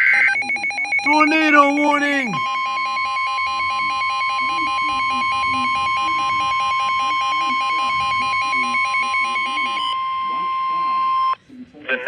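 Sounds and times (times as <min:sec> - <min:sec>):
rapidly pulsing electronic beeps: 0:00.0 - 0:11.4
steady high alarm tone: 0:00.0 - 0:11.4.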